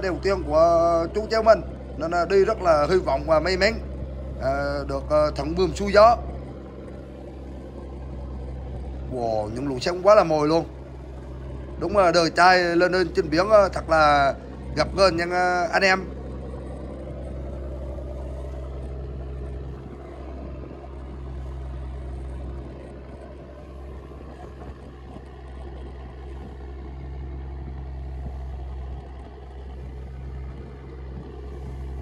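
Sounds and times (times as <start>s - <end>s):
boat engine humming: 0.0s - 32.0s
spray and waves along hull: 0.0s - 32.0s.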